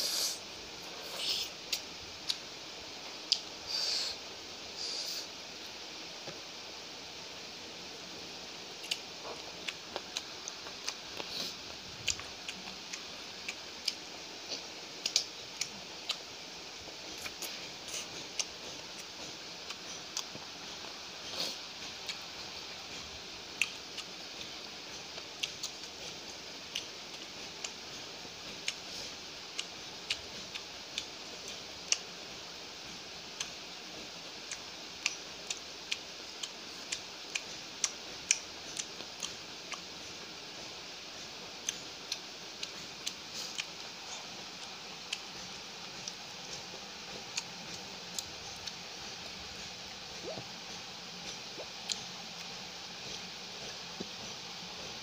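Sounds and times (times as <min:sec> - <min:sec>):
background hiss: 0:00.0 - 0:55.0
person chewing with wet smacks: 0:00.3 - 0:02.4, 0:03.0 - 0:04.1, 0:08.7 - 0:55.0.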